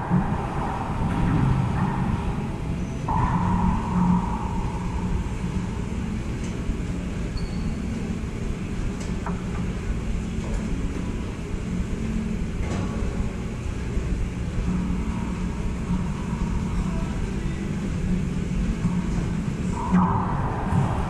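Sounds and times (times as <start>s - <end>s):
low room rumble: 0.0s - 21.0s.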